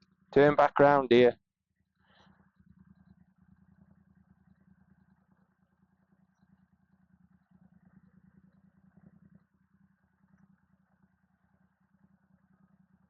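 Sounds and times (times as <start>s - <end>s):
faint motorcycle engine hum: 0.0s - 1.3s, 2.0s - 13.0s.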